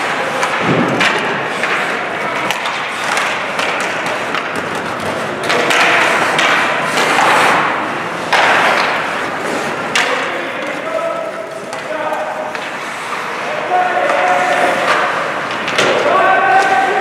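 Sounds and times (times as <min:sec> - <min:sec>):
hockey sticks and puck clacking: 0:00.0 - 0:17.0
skate blades scraping ice: 0:00.0 - 0:17.0.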